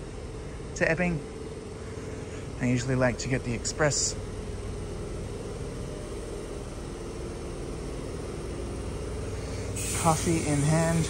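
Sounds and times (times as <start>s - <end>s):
electric train humming: 0.0s - 11.0s
faint steady tones: 0.0s - 11.0s.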